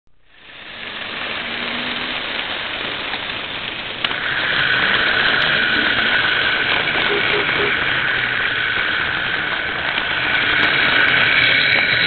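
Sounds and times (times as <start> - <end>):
model train wheels on rail: 0.1 - 12.0.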